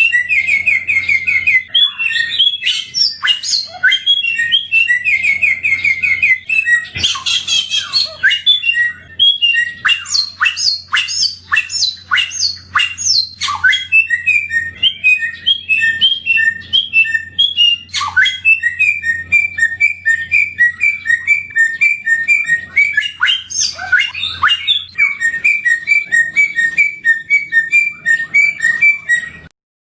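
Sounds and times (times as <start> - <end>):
songbird singing: 0.0 - 29.5.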